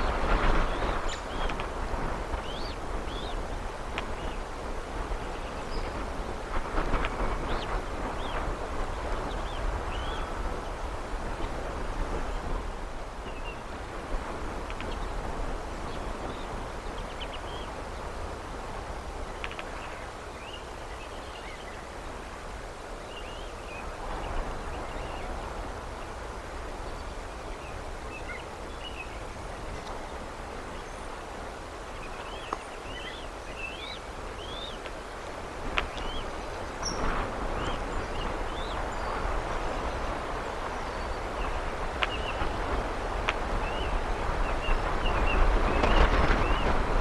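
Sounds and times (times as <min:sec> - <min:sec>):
wind noise on microphone: 0:00.0 - 0:47.0.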